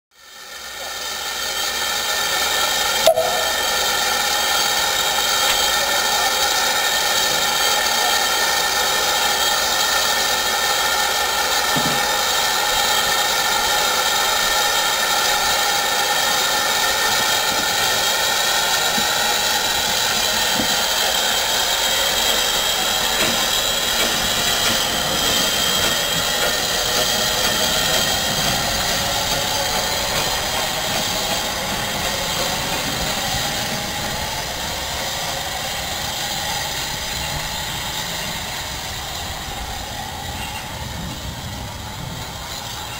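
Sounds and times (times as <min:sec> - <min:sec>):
loud hiss of steam: 0:00.2 - 0:42.9.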